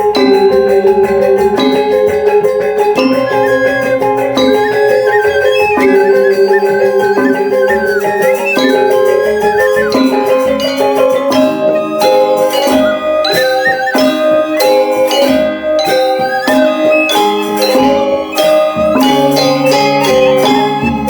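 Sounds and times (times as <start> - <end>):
gamelan music: 0.0 - 21.0.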